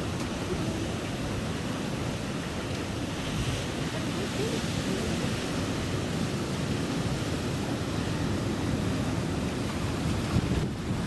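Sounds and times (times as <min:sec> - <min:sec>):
ocean surf rushing: 0:00.0 - 0:11.0
wind rumbling on microphone: 0:00.0 - 0:11.0.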